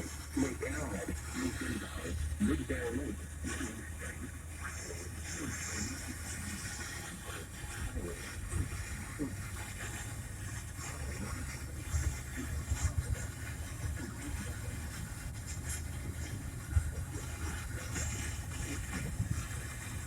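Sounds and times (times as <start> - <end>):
car engine and road rumble: 3.2 - 20.0.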